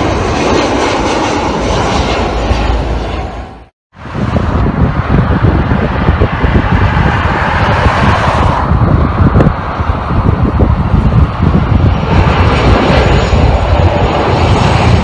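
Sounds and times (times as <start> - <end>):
jet airliner engine noise: 0.0 - 15.0
wind buffeting microphone: 0.0 - 15.0.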